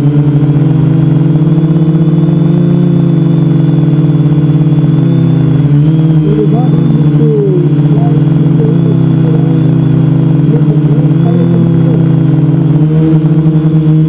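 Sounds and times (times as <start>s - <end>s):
multicopter motors buzzing: 0.0s - 14.0s.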